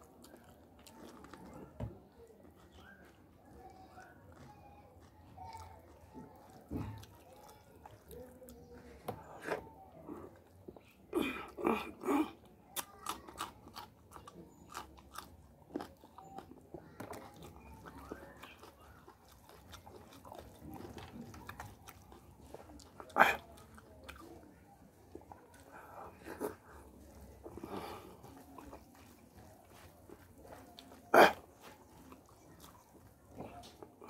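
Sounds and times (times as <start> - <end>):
chewing and crunching: 0.0 - 34.0.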